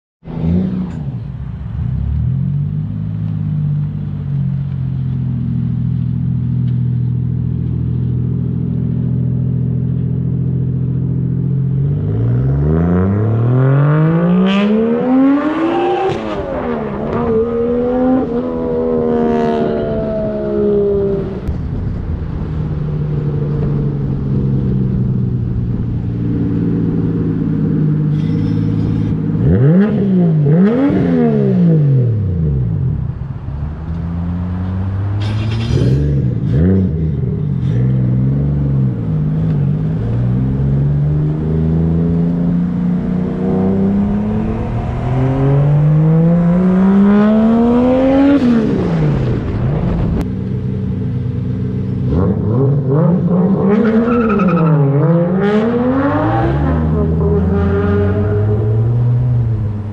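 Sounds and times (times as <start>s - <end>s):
car engine revving: 9.9s - 59.9s.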